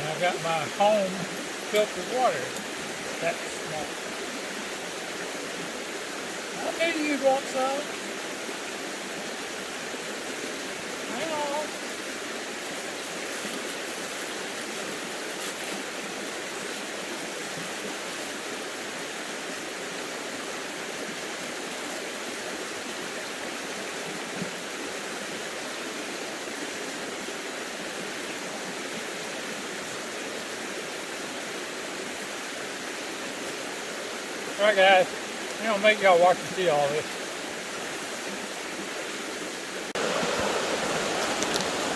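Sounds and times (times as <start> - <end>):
stream rushing: 0.0 - 41.9.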